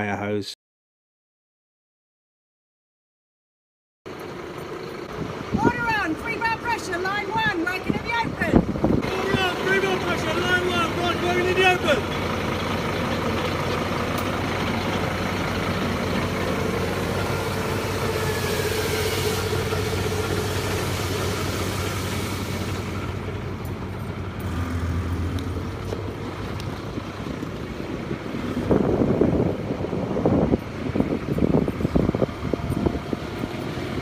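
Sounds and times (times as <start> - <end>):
fire engine pump running: 4.1 - 34.0.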